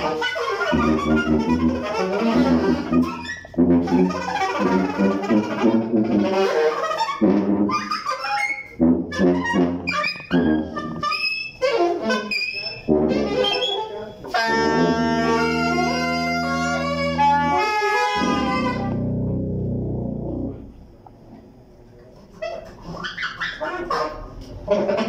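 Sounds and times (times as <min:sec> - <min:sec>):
alto saxophone: 0:00.0 - 0:21.0
tuba: 0:00.0 - 0:21.4, 0:22.0 - 0:25.0.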